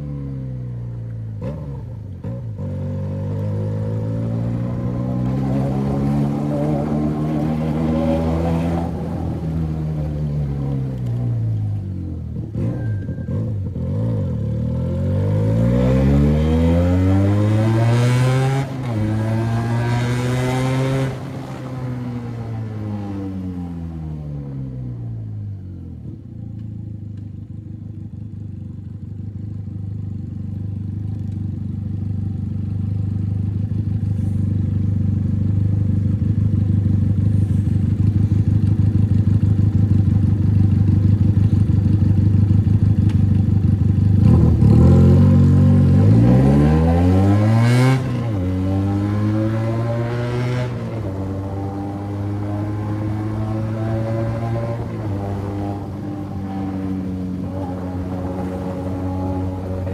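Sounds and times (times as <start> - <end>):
motorcycle engine with loud exhaust: 0.0 - 59.9.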